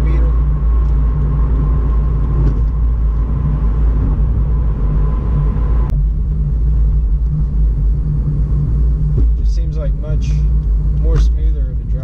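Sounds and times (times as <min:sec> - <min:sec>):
engine and road rumble: 0:00.0 - 0:12.0
steady whine: 0:00.0 - 0:12.0.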